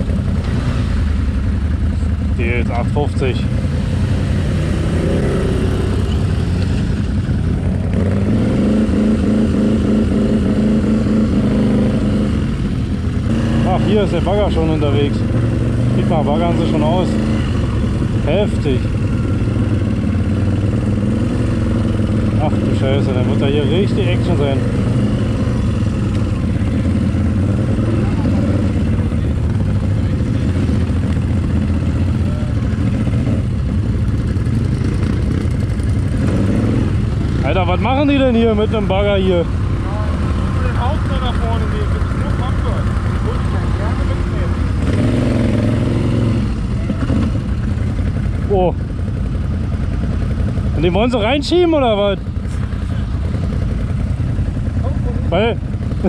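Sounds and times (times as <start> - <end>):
atv engine droning: 0.0 - 56.0.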